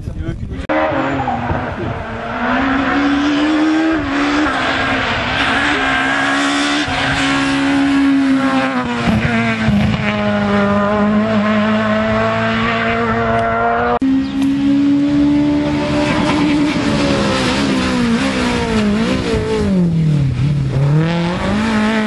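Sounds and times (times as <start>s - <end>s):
rally car engine at high revs: 0.7s - 22.0s.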